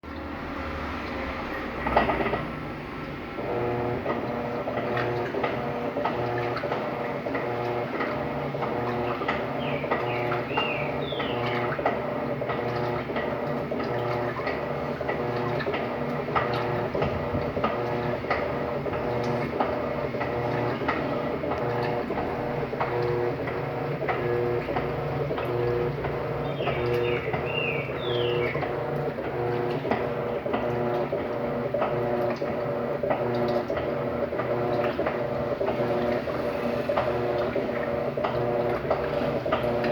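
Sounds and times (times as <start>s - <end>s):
washing machine motor pulsing hum: 0.0s - 39.9s.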